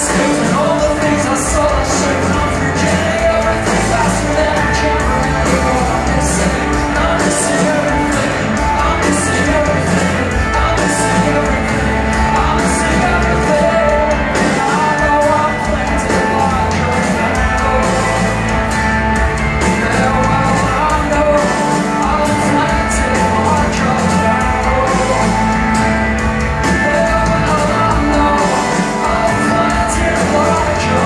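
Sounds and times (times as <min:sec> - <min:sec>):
live rock band playing: 0:00.0 - 0:31.0
person singing: 0:00.0 - 0:31.0.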